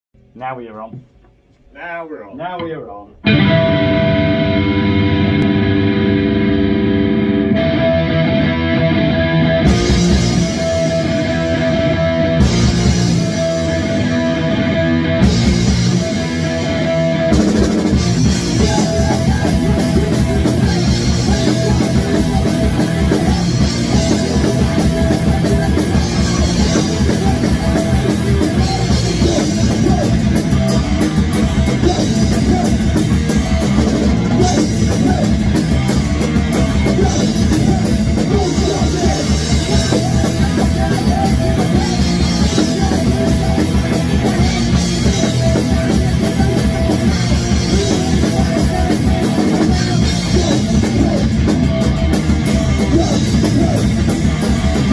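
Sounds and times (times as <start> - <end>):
distorted electric guitar: 2.6 - 54.9
drum kit: 7.6 - 54.9.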